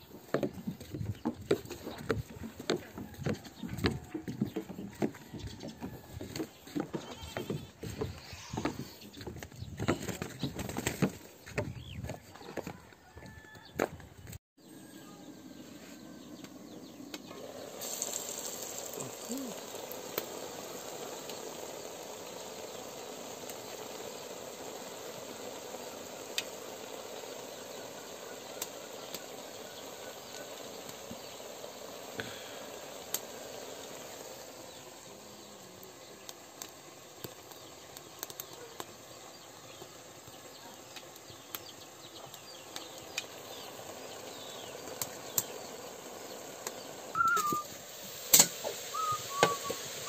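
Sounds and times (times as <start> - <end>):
steaming pot hissing: 0.0 - 9.4, 15.2 - 50.0
burning wood crackling: 0.0 - 13.2, 15.6 - 50.0.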